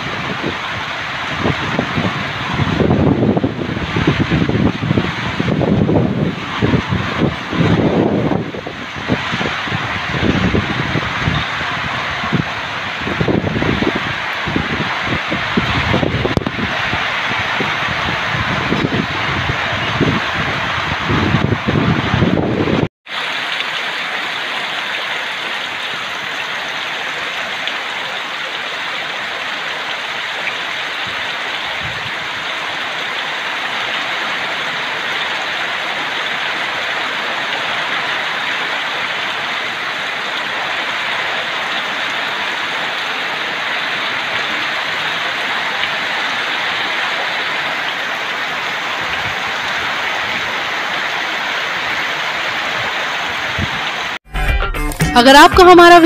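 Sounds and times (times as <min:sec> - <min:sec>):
heavy rain hissing: 0:00.0 - 0:54.2.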